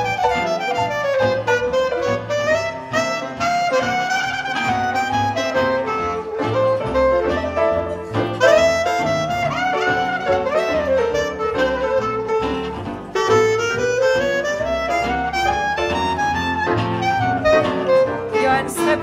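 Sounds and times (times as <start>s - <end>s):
band accompaniment: 0.0s - 19.0s
clarinet jazz solo: 0.0s - 19.0s
double bass: 0.0s - 19.0s.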